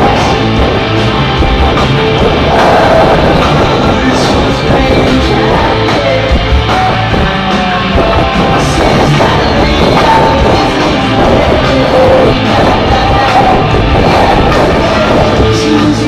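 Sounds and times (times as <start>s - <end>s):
electric guitar: 0.0s - 16.0s
live rock band playing: 0.0s - 16.0s
steady drum beat: 0.0s - 16.0s.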